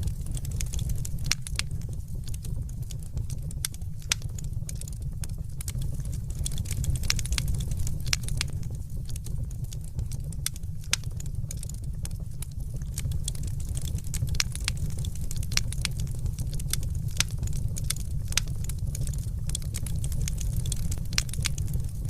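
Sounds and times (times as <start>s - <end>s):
steady low rumble: 0.0s - 22.0s
wood fire crackling: 0.0s - 22.0s
sharp pops and snaps: 0.2s - 22.0s.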